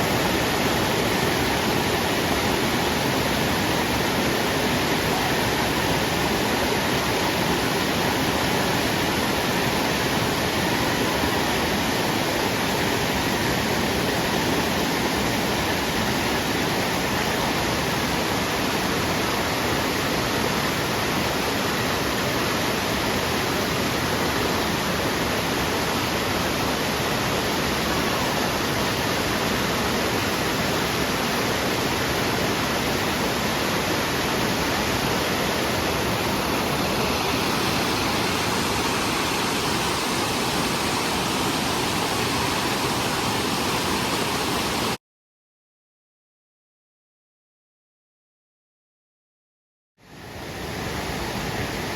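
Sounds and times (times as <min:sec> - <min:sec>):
waterfall rushing: 0:00.0 - 0:45.0, 0:50.1 - 0:51.9.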